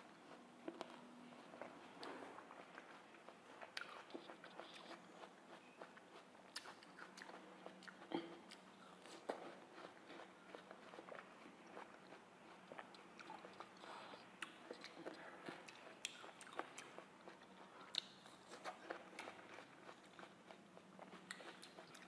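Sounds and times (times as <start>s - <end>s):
chewing watermelon: 0.0s - 22.0s.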